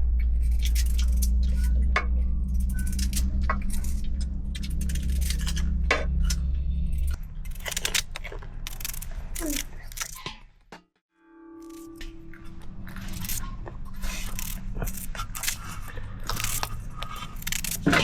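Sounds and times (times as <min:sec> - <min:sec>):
low hum: 0:00.0 - 0:10.6, 0:11.2 - 0:18.0.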